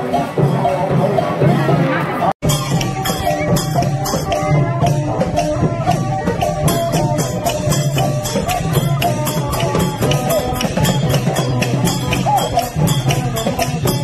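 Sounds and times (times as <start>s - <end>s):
drums: 0.0s - 14.0s
held melody line: 0.0s - 14.0s
hand cymbals: 2.4s - 14.0s.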